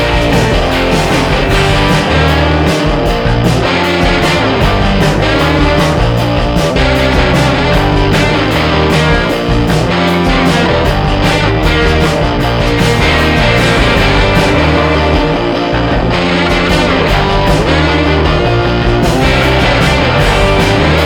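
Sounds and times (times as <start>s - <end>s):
rock music with guitar: 0.0s - 21.0s.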